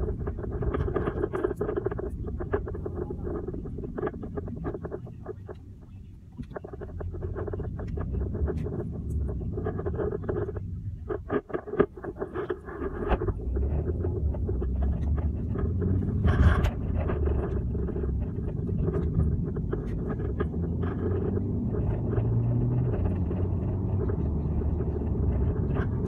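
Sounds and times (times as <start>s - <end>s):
car cabin rumble while driving: 0.0s - 26.0s
small clicks and rattles: 0.0s - 26.0s.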